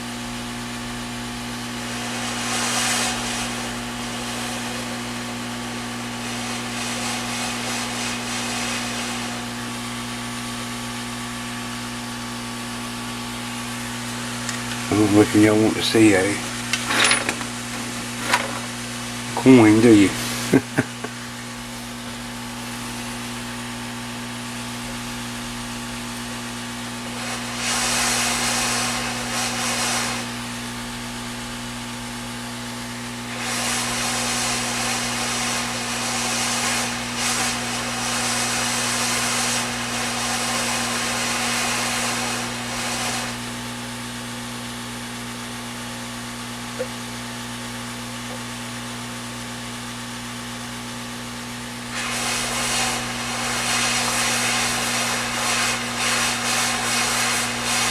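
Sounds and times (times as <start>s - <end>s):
steady electrical hum: 0.0s - 57.9s.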